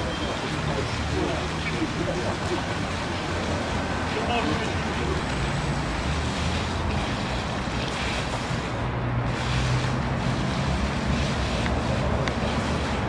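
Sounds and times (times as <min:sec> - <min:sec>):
water pouring into a pool: 0:00.0 - 0:13.0.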